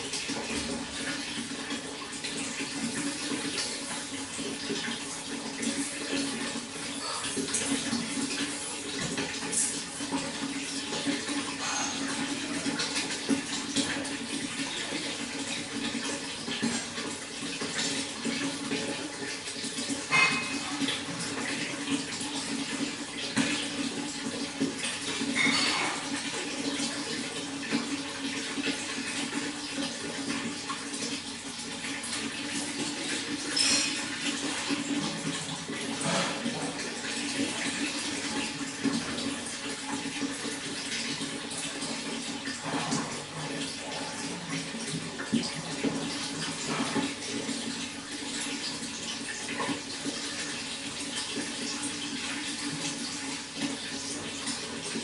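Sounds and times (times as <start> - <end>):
water flowing: 0.0 - 55.0.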